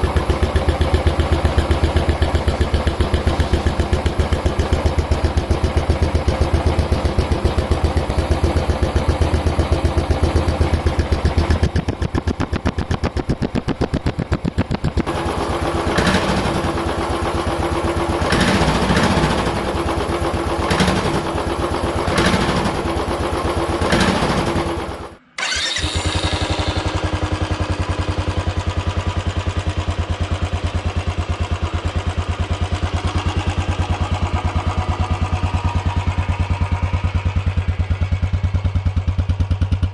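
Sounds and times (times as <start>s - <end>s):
deeper motorcycle idling: 0.0s - 25.2s, 26.3s - 39.9s
motorcycle exhaust idling and revving: 0.0s - 25.2s, 25.9s - 39.9s.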